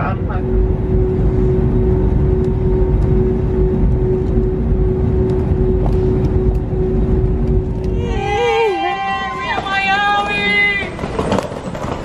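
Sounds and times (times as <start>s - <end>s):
airliner engines rumbling: 0.0s - 12.0s.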